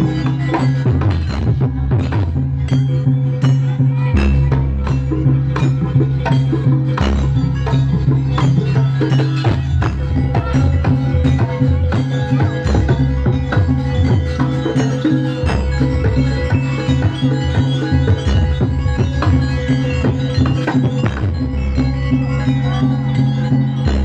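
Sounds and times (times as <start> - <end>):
percussion ensemble music: 0.0 - 24.0.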